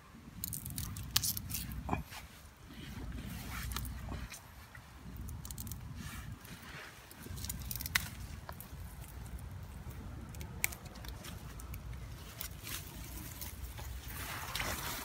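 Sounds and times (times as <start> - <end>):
stems snapping: 0.4 - 2.2, 3.6 - 15.0
dry straw and grass rustling: 0.4 - 15.0.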